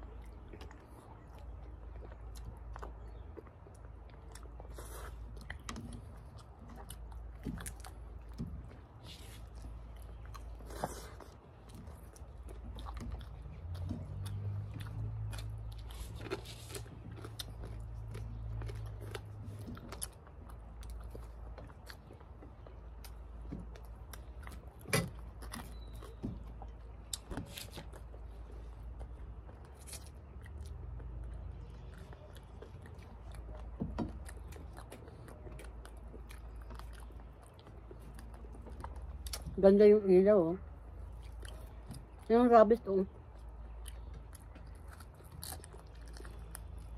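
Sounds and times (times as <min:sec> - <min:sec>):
chewing and eating: 0:00.0 - 0:46.9.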